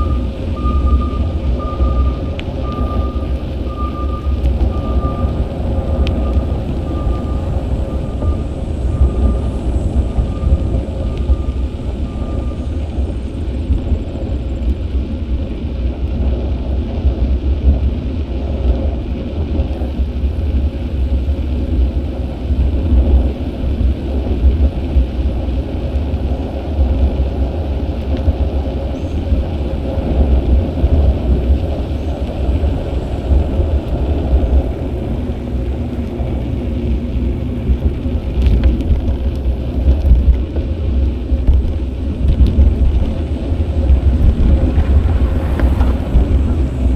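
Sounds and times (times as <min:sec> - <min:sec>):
road noise: 0:00.0 - 0:46.9
wind buffeting microphone: 0:00.0 - 0:46.9.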